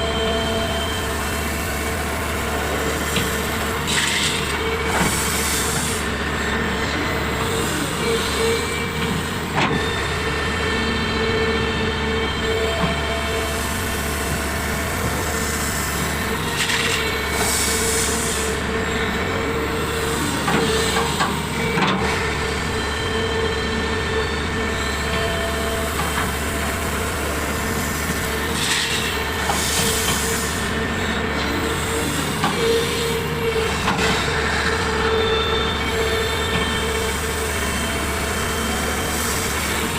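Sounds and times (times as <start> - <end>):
excavator diesel engine and hydraulics: 0.0 - 39.9.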